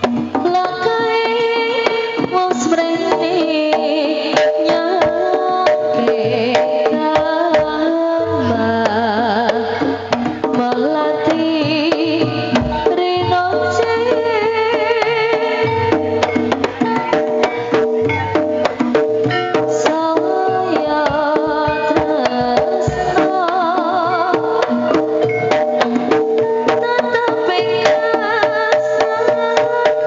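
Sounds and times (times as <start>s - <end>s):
fast drum strokes: 0.0s - 30.0s.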